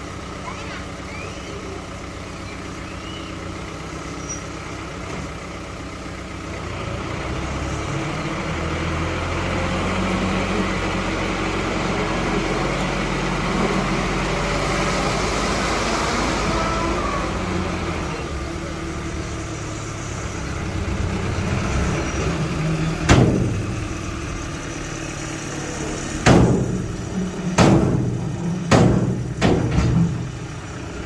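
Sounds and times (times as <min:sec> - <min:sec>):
diesel engine revving under load: 0:00.0 - 0:31.0.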